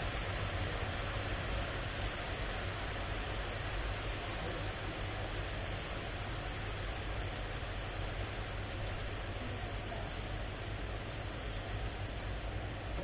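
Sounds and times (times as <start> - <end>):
steady rain hissing: 0.0 - 13.0.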